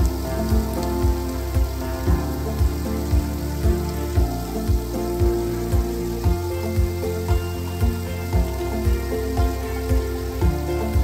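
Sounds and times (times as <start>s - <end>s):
background music with low thumps: 0.0s - 11.0s.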